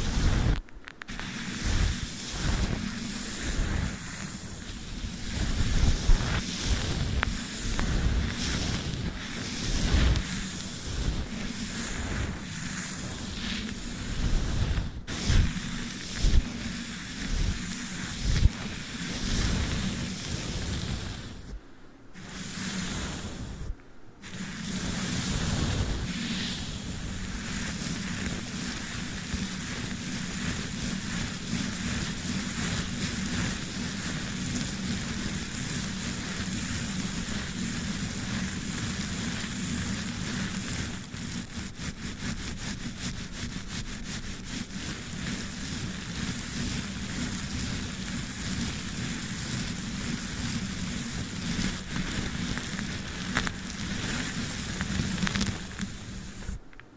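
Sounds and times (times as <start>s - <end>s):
brush scratching sticky tape: 0.0s - 21.6s, 22.2s - 56.6s.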